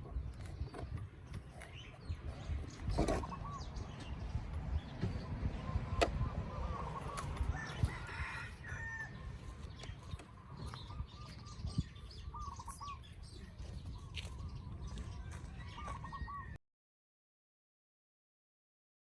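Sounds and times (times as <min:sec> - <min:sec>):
wind buffeting microphone: 0:00.0 - 0:16.6.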